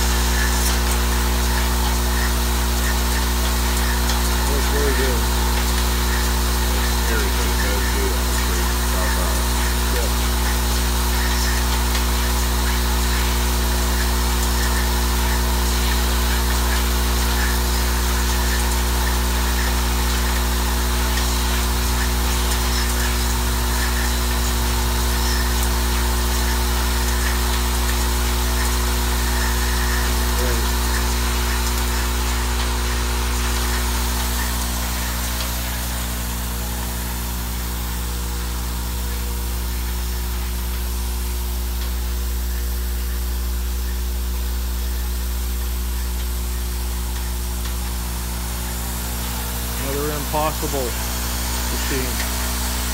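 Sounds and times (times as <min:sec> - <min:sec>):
deep electrical hum: 0:00.0 - 0:52.9.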